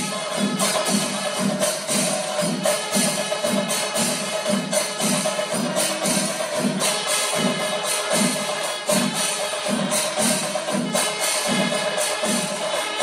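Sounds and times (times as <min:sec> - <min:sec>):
clashing hand cymbals: 0:00.0 - 0:13.0
drums beating steady rhythm: 0:00.0 - 0:13.0.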